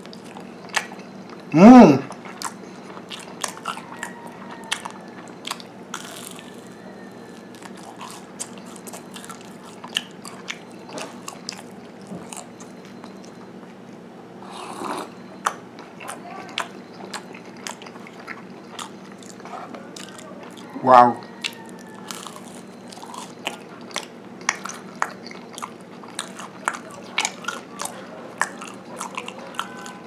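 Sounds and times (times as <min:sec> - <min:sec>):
person chewing crunchy snack: 0:00.0 - 0:01.5, 0:02.1 - 0:13.5, 0:14.4 - 0:30.0.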